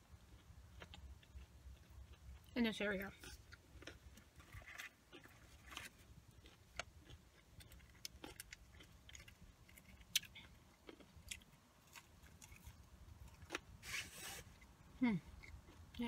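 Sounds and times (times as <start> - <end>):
quiet chewing mouth sounds: 0.2 - 13.6.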